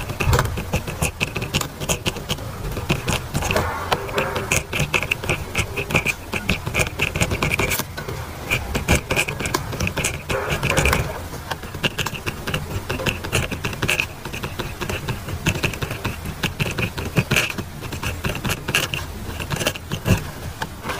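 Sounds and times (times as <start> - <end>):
pen scratching on paper: 0.0 - 20.9.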